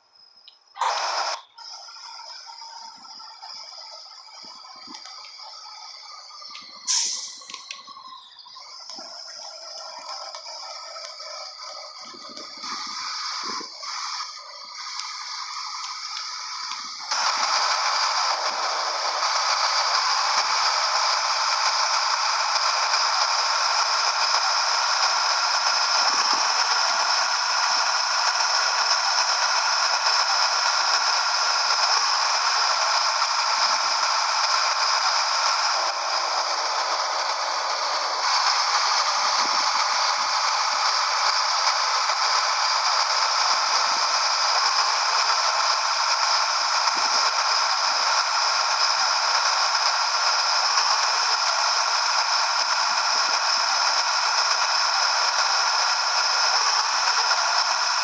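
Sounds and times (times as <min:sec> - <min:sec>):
static hiss: 0:02.3 - 0:58.0.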